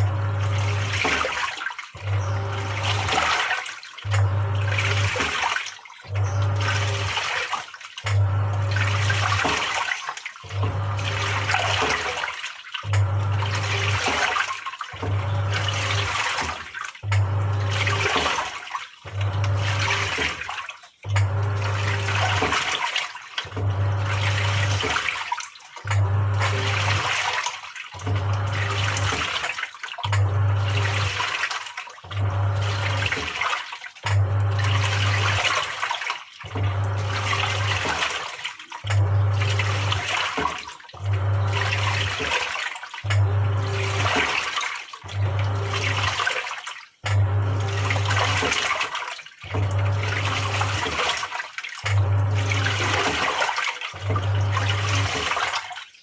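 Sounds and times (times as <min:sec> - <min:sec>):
washing machine motor humming: 0:00.0 - 0:56.0
water sloshing in drum: 0:00.0 - 0:56.0.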